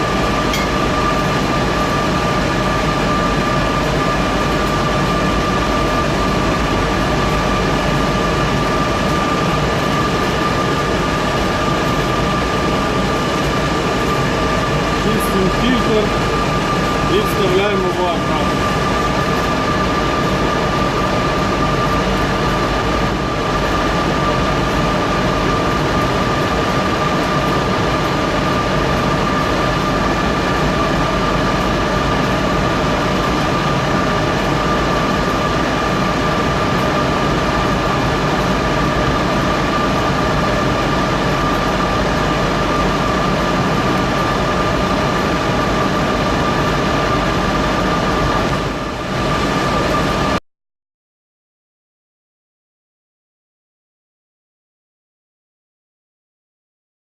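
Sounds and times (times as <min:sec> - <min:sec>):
cooling fans whirring with whine: 0:00.0 - 0:50.4.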